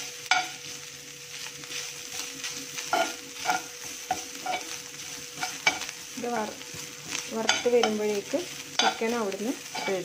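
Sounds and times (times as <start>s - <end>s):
metal spoon scraping a pan: 0.0s - 0.7s, 1.7s - 10.0s
low oil sizzle: 0.0s - 10.0s.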